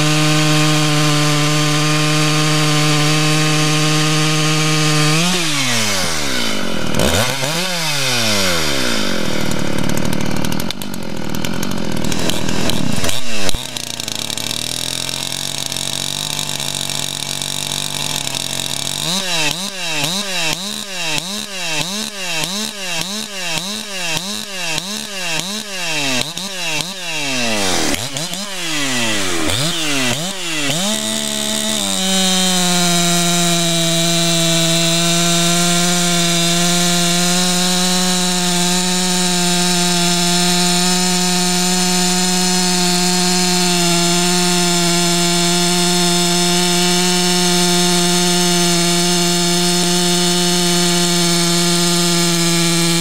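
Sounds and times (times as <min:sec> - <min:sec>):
chainsaw cutting log: 0:00.0 - 0:53.0
chainsaw revving and idling: 0:00.0 - 0:53.0.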